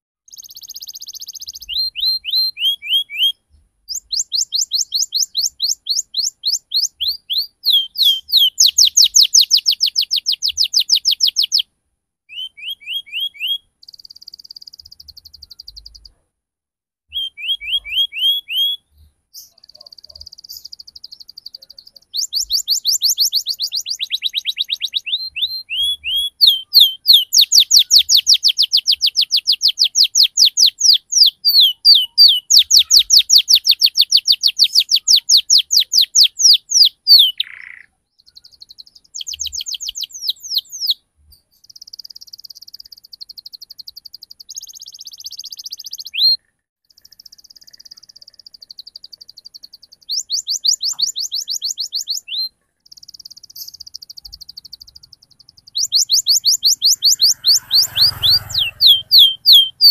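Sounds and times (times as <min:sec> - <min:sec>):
canary singing trills: 0:00.3 - 0:11.7, 0:12.3 - 0:16.2, 0:17.1 - 0:59.9.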